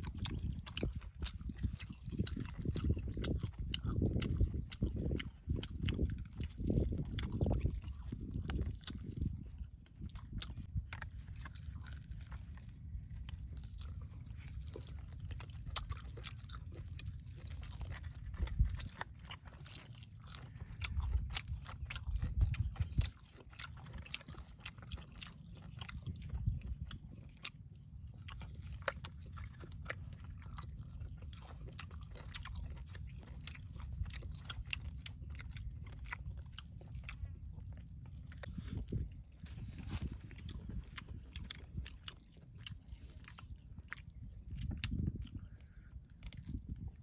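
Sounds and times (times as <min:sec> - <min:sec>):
chewing and tearing meat: 0:00.0 - 0:47.0
low rumbles: 0:00.0 - 0:47.0.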